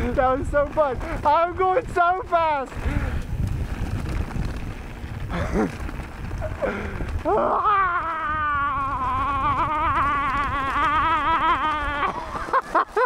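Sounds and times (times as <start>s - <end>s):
wind rush: 0.0s - 12.7s
bike trail rumble: 0.0s - 13.0s.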